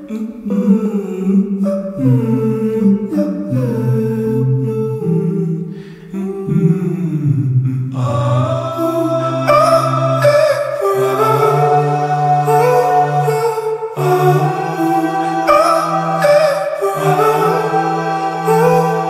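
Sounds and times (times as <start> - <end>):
humming voices holding chords: 0.0 - 19.0.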